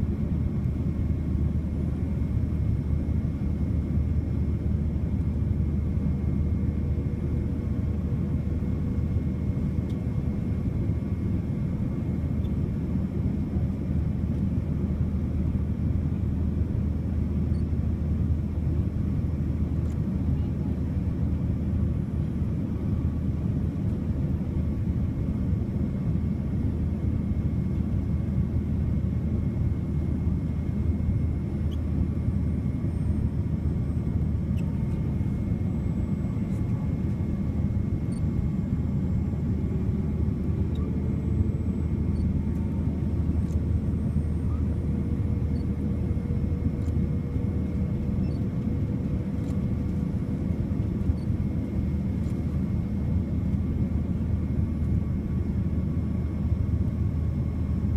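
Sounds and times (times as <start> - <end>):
airliner cabin rumble in flight: 0.0 - 57.9
faint steady hums: 0.0 - 57.9.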